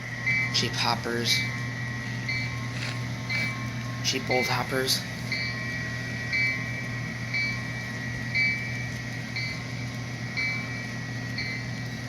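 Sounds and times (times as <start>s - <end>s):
locomotive bell ringing: 0.0s - 12.0s
low diesel engine hum: 0.0s - 12.0s.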